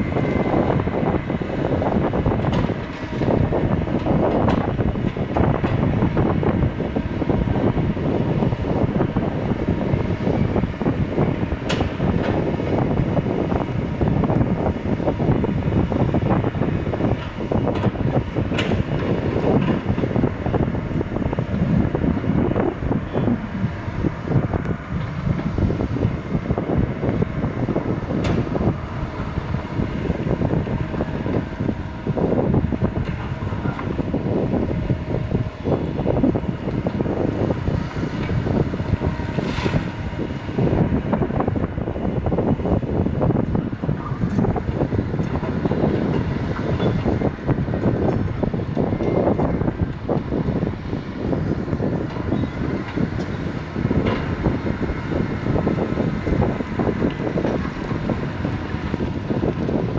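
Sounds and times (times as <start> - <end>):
excavator diesel engine running: 0.0 - 59.9
wind buffeting microphone: 0.0 - 59.9.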